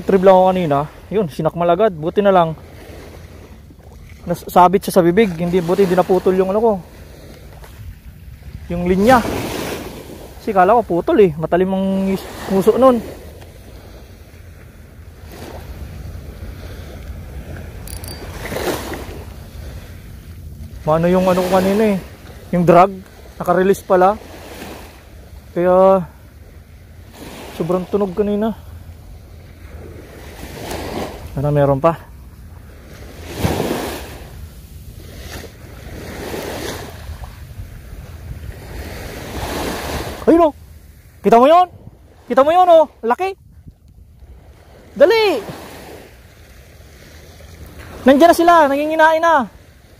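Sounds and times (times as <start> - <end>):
wind buffeting microphone: 0.0 - 25.5, 28.2 - 42.4, 43.0 - 48.2
small waves washing on shore: 0.0 - 49.9.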